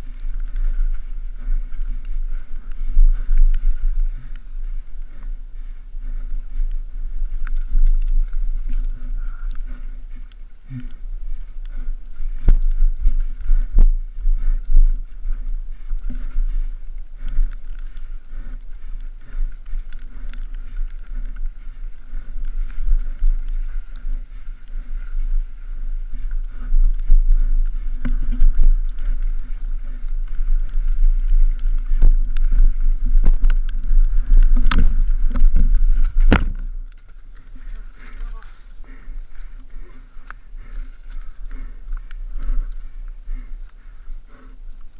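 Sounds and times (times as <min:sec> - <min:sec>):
wind buffeting microphone: 0:00.0 - 0:44.8
bike rumbling over rough ground: 0:00.0 - 0:44.9.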